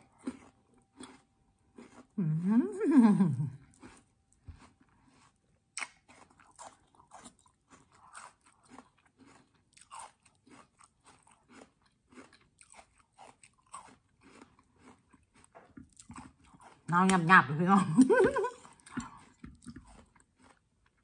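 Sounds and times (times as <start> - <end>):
crunchy chewing: 0.0 - 2.2, 3.5 - 17.2, 18.4 - 21.0.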